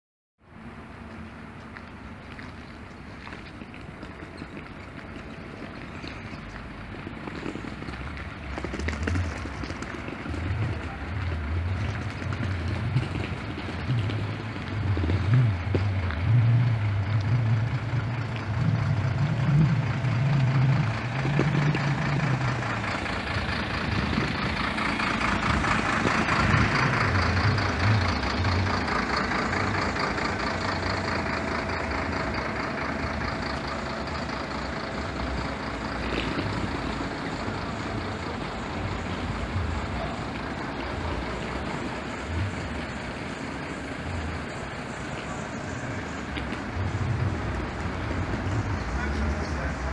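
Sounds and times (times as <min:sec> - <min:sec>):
bus engines running: 0:00.4 - 0:49.9
low rumble: 0:01.8 - 0:49.9.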